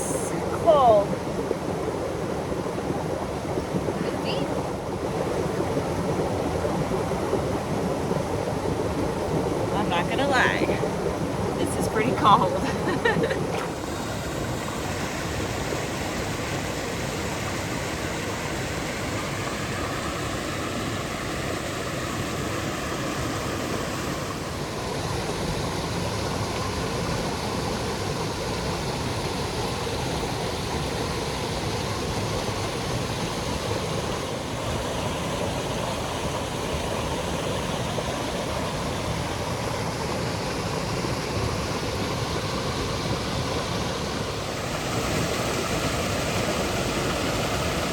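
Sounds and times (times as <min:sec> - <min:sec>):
creek water rushing and splashing: 0:00.0 - 0:47.9.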